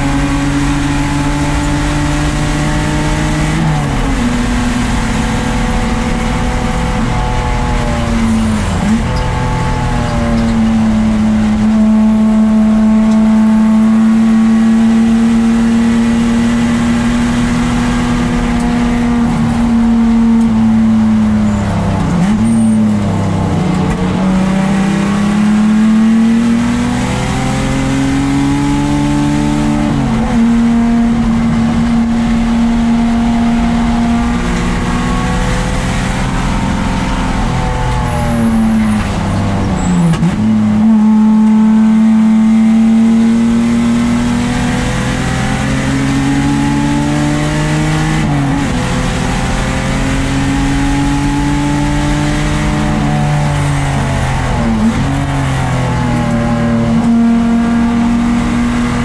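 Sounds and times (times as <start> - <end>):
race car engine shifting gears: 0.0 - 59.0.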